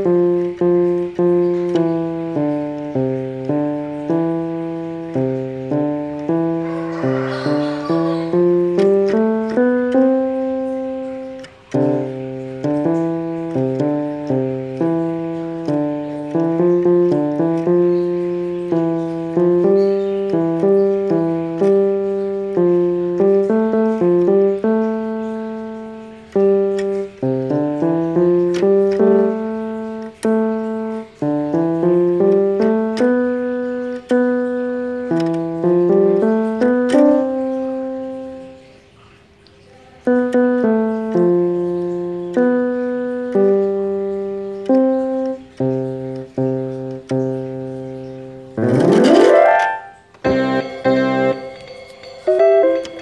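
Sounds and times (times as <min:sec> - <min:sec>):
electronic keyboard piano tune: 0:00.0 - 0:53.0.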